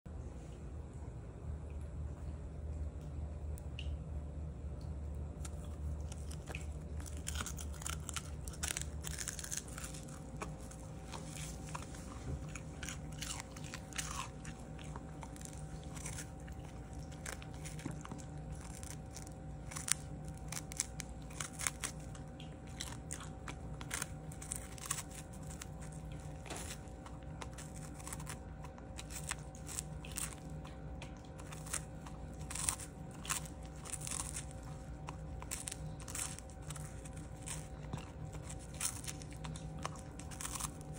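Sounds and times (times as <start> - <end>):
faint steady hum: 0.1 - 40.9
dog crunching and chewing fish: 5.4 - 40.9.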